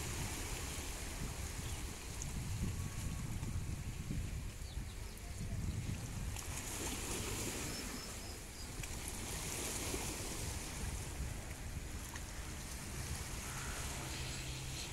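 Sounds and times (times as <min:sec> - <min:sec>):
wind buffeting microphone: 0:00.0 - 0:08.1, 0:09.0 - 0:14.9
small waves on shore: 0:00.0 - 0:14.9.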